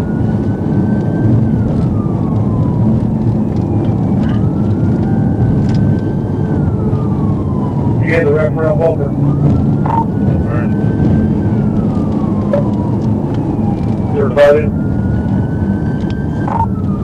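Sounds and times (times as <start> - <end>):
car engine at speed: 0.0 - 17.0
police siren wailing: 0.0 - 17.0.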